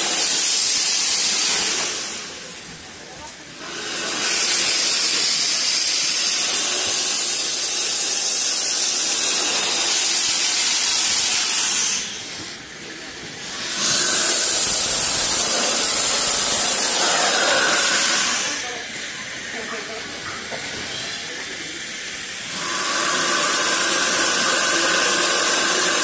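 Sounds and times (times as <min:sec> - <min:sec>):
steam locomotive hissing steam: 0:00.0 - 0:26.0.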